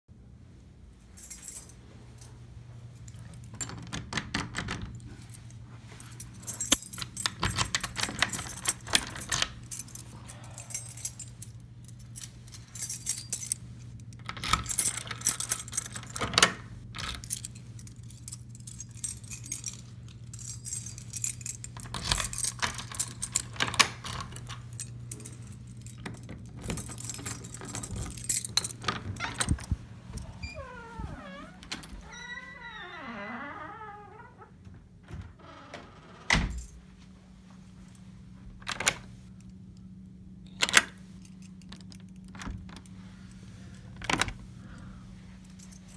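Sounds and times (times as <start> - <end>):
keys jangling: 1.2 - 33.7, 36.4 - 36.8, 38.6 - 39.6, 40.5 - 43.0, 43.7 - 45.9
steady low hum: 4.8 - 32.1, 34.3 - 45.9.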